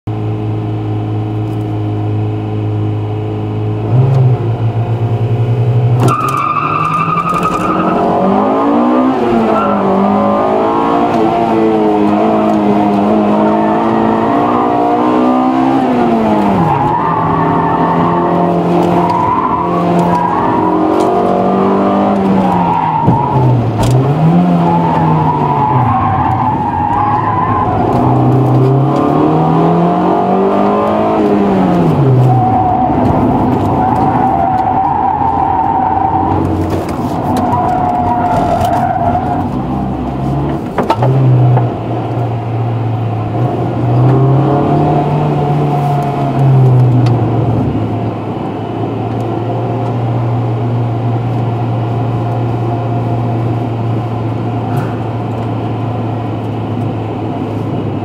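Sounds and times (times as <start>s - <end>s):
car engine revving: 0.1s - 58.0s.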